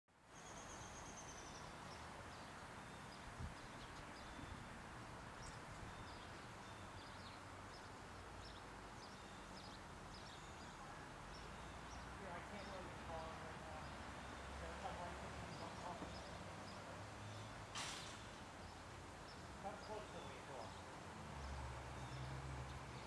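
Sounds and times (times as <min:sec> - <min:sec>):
songbirds chirping: 0:00.2 - 0:23.0
steady background hiss: 0:00.2 - 0:23.0.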